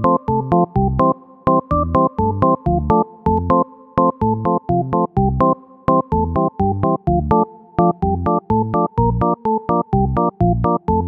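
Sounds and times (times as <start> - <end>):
choppy synthesizer chords: 0.0 - 11.0.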